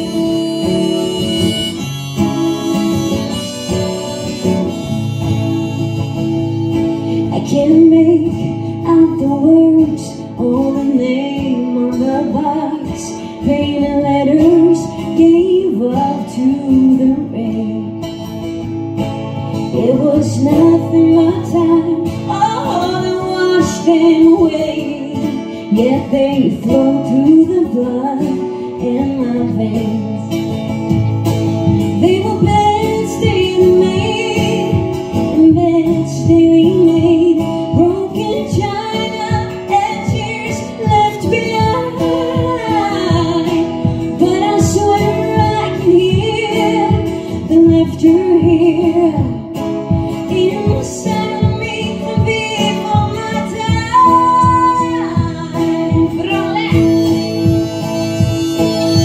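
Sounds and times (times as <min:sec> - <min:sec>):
acoustic guitars: 0:00.0 - 0:59.0
woman singing: 0:00.0 - 0:59.0.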